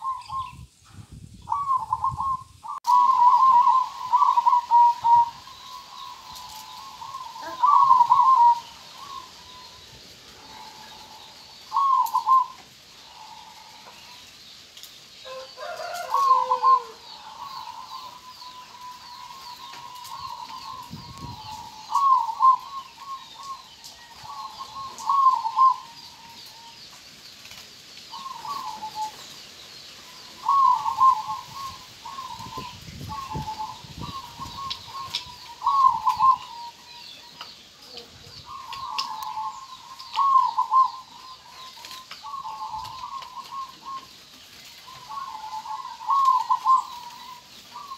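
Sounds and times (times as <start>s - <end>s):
dove cooing: 0.0s - 0.6s, 1.5s - 14.2s, 15.2s - 26.8s, 28.1s - 29.2s, 30.3s - 44.2s, 44.8s - 47.9s.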